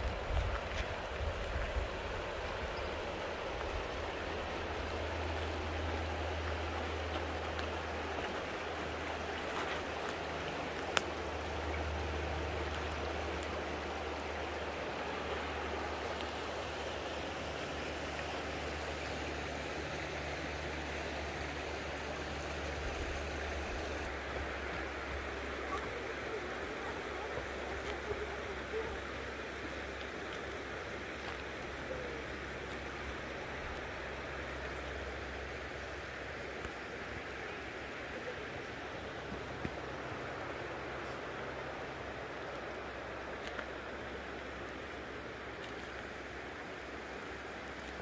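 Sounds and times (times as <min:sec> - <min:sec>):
river rushing over rocks: 0:00.0 - 0:48.0.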